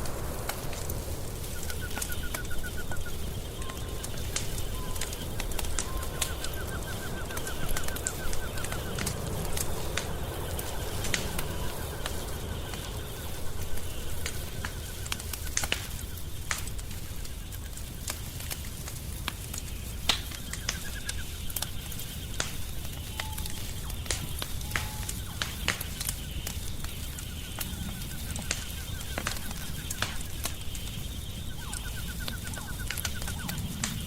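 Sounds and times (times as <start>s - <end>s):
wood fire crackling in a fireplace: 0.0s - 34.0s.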